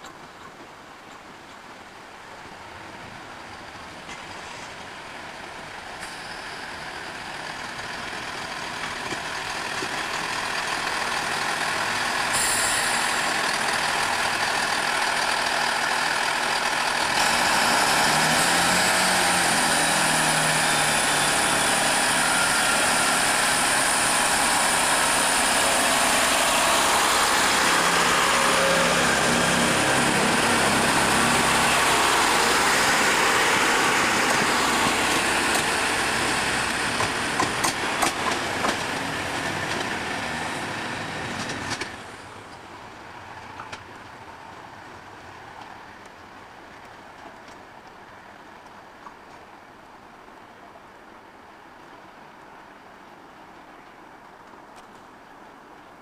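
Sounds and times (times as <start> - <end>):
diesel train engines running: 0.2 - 50.4.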